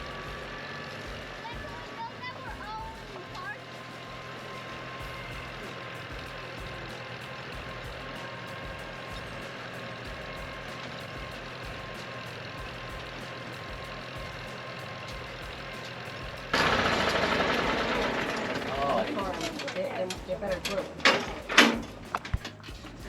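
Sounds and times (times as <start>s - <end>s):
vehicle engine running at low speed: 0.0s - 23.0s.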